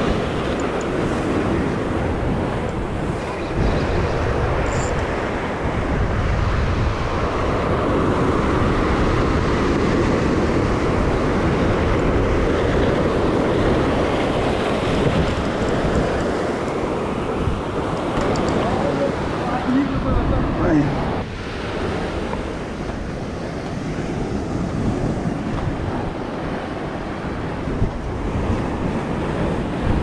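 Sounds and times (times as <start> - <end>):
surf breaking over rocks: 0.0 - 30.0
wind buffeting microphone: 0.0 - 30.0.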